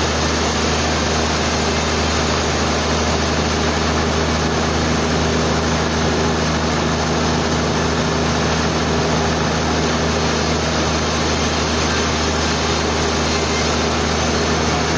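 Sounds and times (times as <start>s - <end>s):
sawmill machinery hum and hiss: 0.0s - 14.9s.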